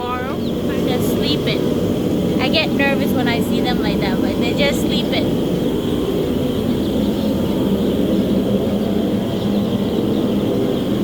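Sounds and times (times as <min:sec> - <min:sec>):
chicks peeping: 0:00.0 - 0:11.0
low rumbling drone: 0:00.0 - 0:11.0.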